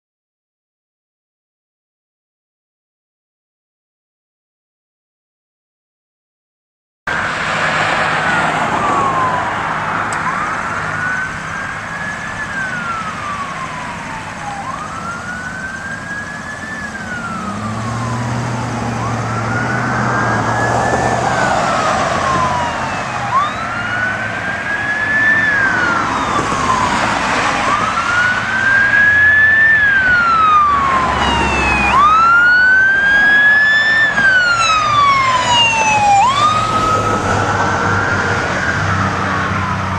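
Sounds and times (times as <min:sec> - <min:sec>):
siren with quick sweeps: 0:07.1 - 0:39.9
wailing siren: 0:07.1 - 0:39.9.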